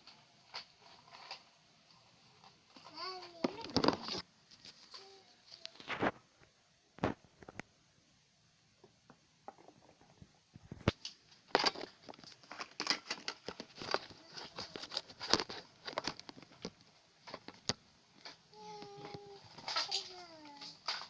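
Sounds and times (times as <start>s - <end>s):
crackling handling noise: 0.0s - 7.8s, 8.8s - 21.0s.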